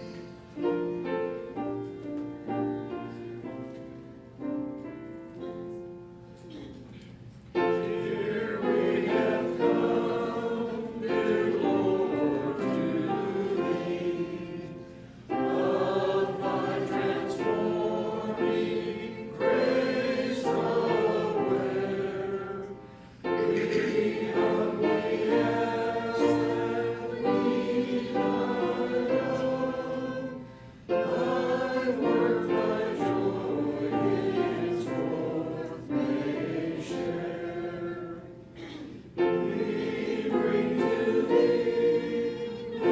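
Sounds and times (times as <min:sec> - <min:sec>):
congregation singing a hymn: 0:00.0 - 0:42.9.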